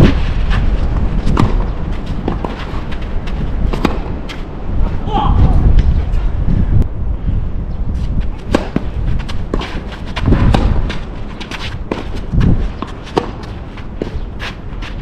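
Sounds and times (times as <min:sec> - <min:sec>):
footsteps and shuffles: 0:00.0 - 0:06.8, 0:07.9 - 0:15.0.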